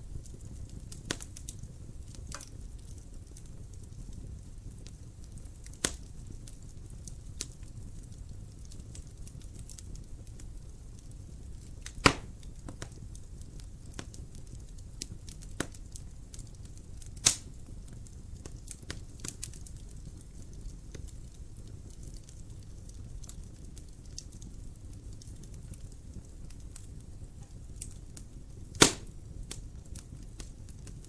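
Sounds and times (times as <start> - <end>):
wood fire crackling: 0.0 - 31.0
loud fire pops: 0.1 - 31.0.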